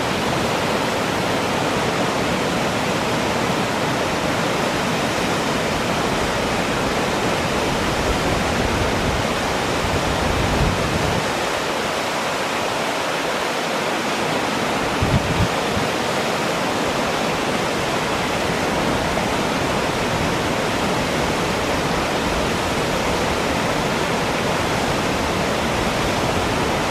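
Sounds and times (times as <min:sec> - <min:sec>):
waterfall rushing and splashing: 0:00.0 - 0:26.9.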